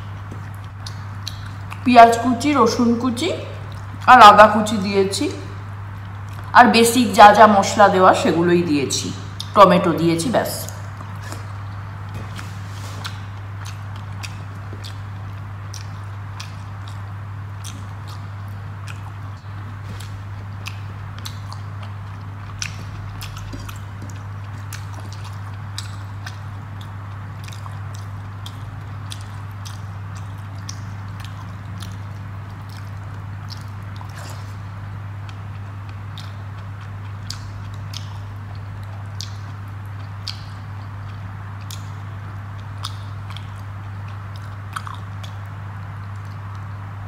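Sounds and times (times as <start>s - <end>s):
steady low hum: 0.0s - 47.0s
person chewing wetly: 0.1s - 1.9s, 3.6s - 4.1s, 5.9s - 6.5s, 9.2s - 9.6s, 10.6s - 46.9s.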